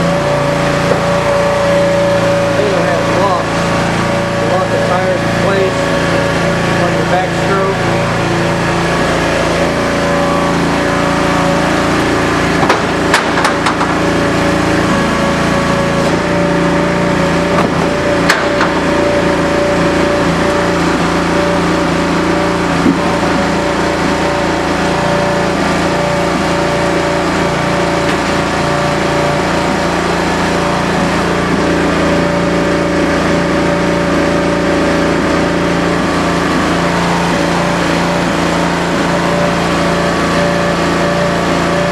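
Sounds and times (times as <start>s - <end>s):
gas engine running: 0.0s - 41.9s.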